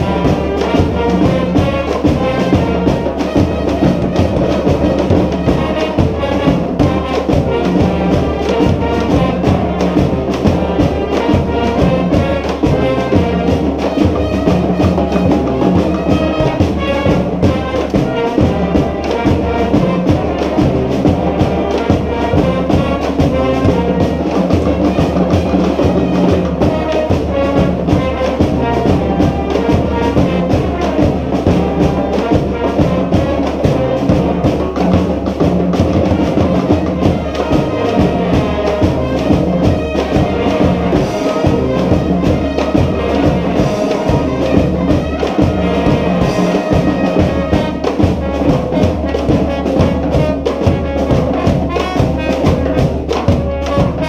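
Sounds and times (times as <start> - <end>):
brass band playing: 0.0 - 54.0
steady drum beat: 0.0 - 54.0.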